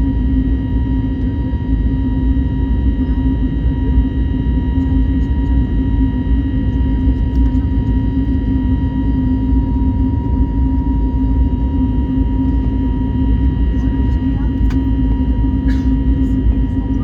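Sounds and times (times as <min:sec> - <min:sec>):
jet engine cabin rumble: 0:00.0 - 0:17.0.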